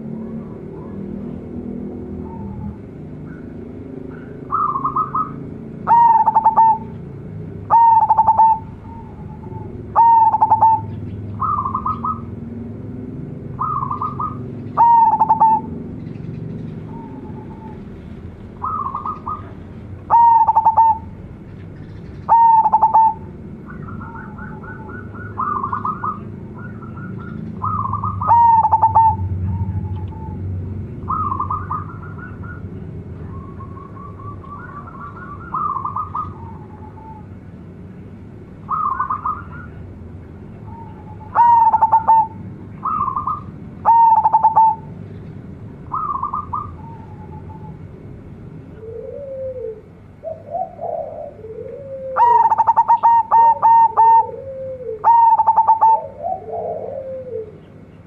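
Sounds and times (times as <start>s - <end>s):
dove cooing song: 0.0s - 37.6s, 38.6s - 45.1s, 45.8s - 58.0s.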